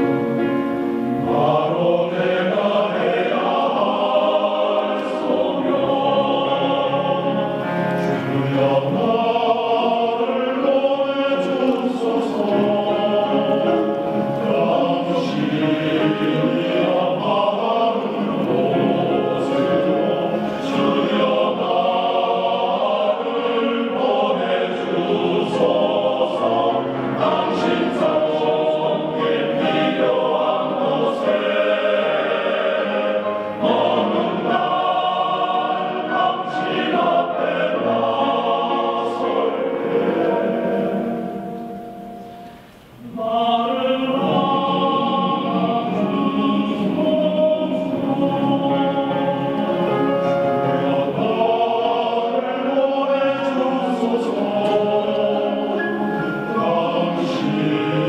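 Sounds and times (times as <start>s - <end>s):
choir singing sustained lines: 0.0s - 58.0s.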